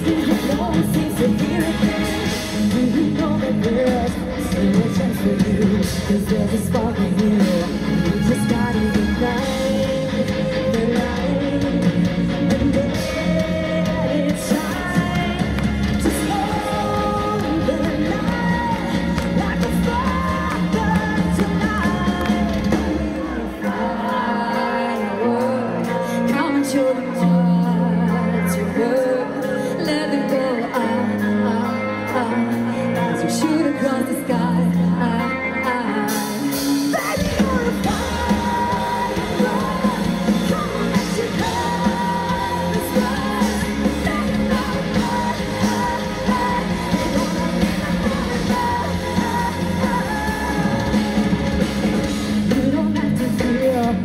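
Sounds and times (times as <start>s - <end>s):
live rock band playing: 0.0s - 54.0s
women singing: 0.0s - 54.0s.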